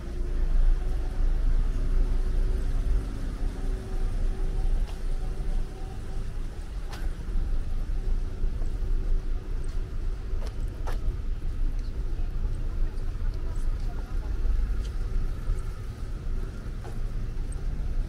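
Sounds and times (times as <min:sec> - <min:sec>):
car engines rumbling: 0:00.0 - 0:18.0.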